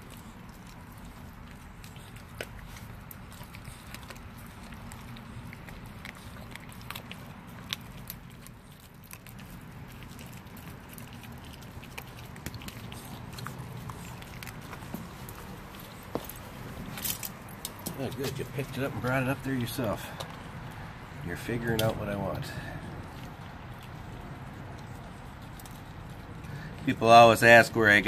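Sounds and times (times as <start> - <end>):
low background hum: 0.0 - 28.0
puppy crunching fish bones: 0.0 - 28.0.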